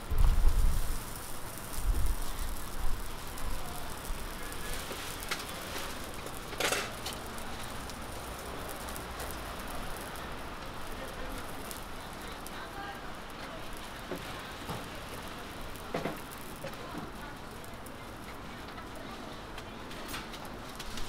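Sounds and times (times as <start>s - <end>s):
pancakes sizzling in oil: 0.0s - 21.0s.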